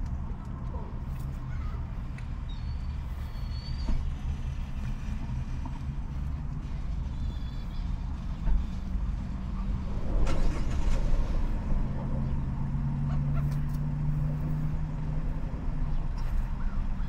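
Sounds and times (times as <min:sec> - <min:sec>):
car engine low rumble: 0:00.0 - 0:17.0
louder engine drone: 0:02.8 - 0:17.0.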